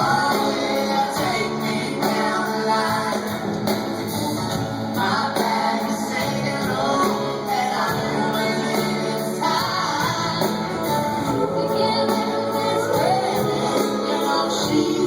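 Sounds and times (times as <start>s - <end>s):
lead singer singing: 0.0s - 15.0s
rock band playing live: 0.0s - 15.0s.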